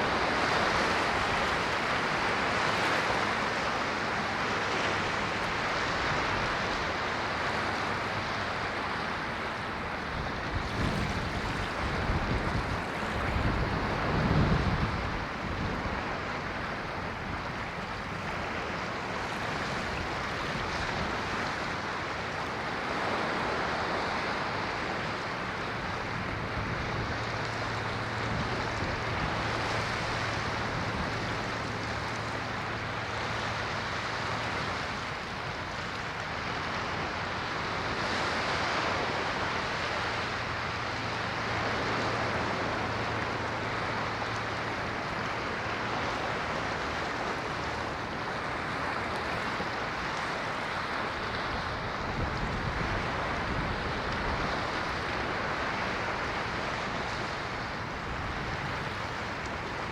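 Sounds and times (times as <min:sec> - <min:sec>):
ocean waves washing ashore: 0:00.0 - 0:59.9
steady low hum: 0:03.5 - 0:59.9.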